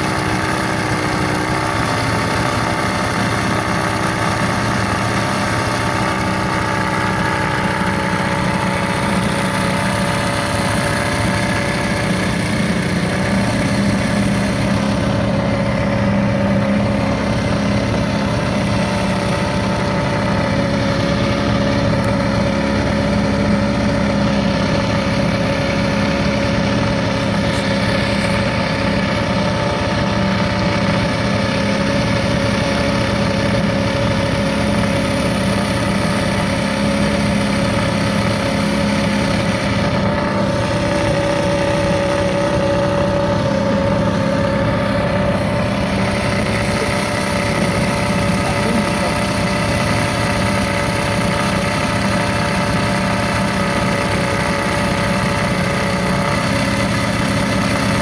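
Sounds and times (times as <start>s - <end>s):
small boat engine droning: 0.0s - 58.0s.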